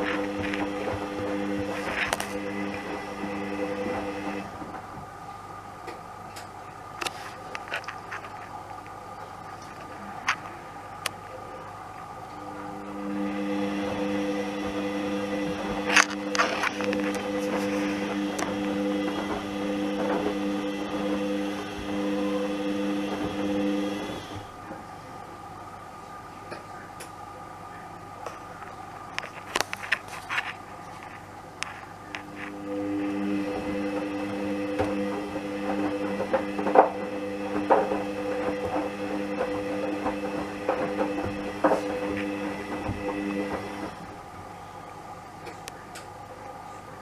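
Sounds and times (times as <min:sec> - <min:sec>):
washing machine motor humming: 0:00.0 - 0:47.0.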